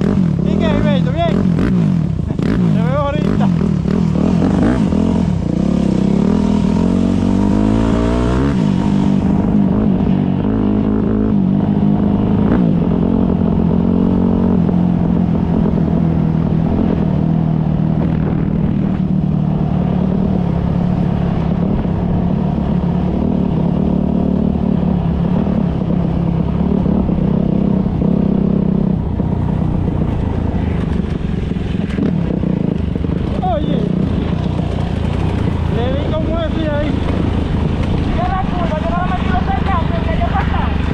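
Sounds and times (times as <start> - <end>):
motocross motorcycle engine: 0.0 - 40.9.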